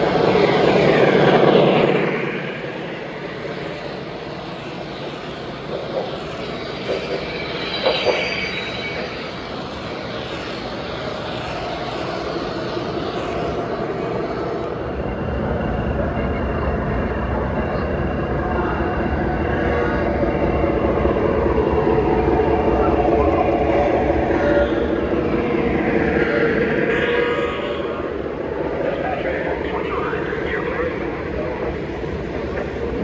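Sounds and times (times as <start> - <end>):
model train whine: 0.0 - 33.0.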